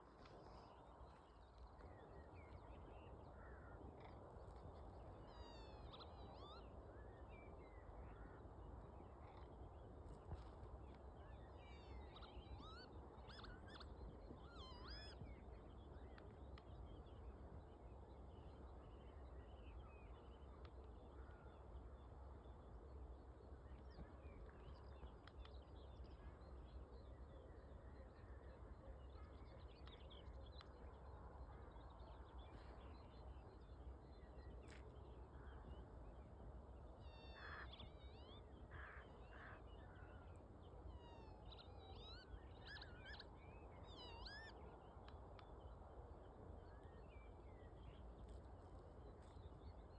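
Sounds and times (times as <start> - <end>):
faint birds singing: 0.0 - 49.9.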